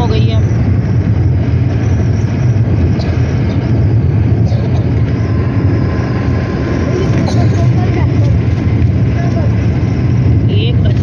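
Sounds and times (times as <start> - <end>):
car interior road noise: 0.0 - 11.0.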